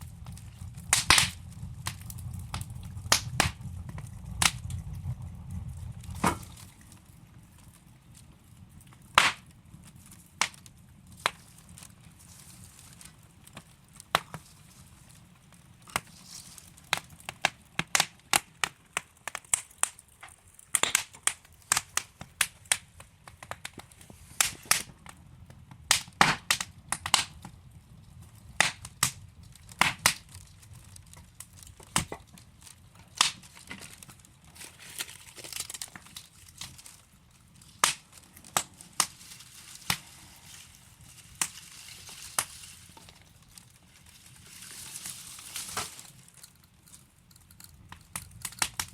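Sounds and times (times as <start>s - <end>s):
fire hissing: 0.0s - 48.9s
logs crackling and popping: 0.0s - 48.9s.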